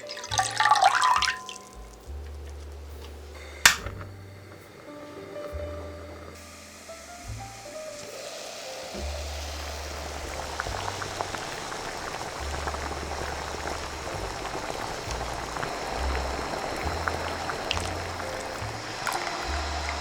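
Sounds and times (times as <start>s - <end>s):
low background music: 0.0s - 20.0s
pot of liquid boiling: 0.0s - 20.0s.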